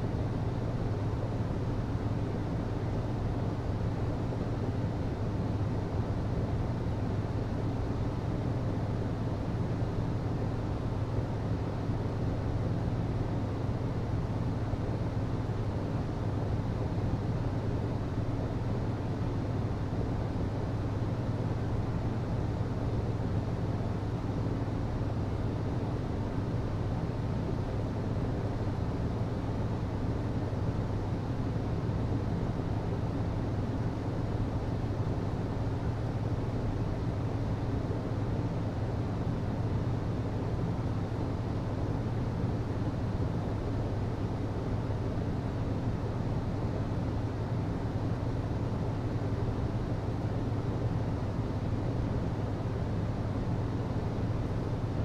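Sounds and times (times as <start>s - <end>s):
hvac low hum: 0.0s - 55.0s.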